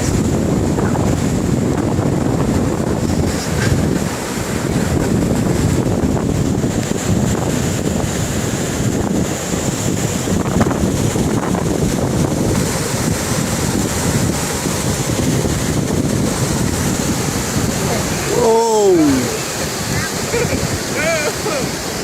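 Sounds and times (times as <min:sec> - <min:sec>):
rushing flood water roar: 0:00.0 - 0:22.0
wind buffeting microphone: 0:00.0 - 0:22.0.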